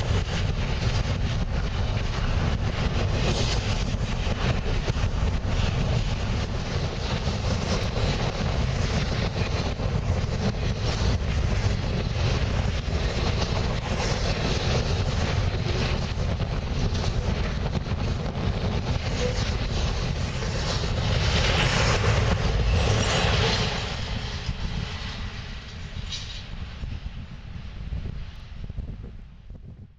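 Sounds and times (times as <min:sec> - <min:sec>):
freight train rumbling on rails: 0:00.0 - 0:29.9
wind buffeting microphone: 0:00.0 - 0:29.9.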